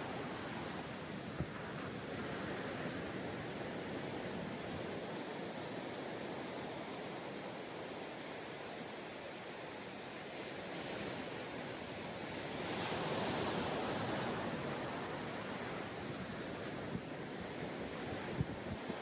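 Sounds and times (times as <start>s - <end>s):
ocean waves on sandy beach: 0.0s - 19.0s.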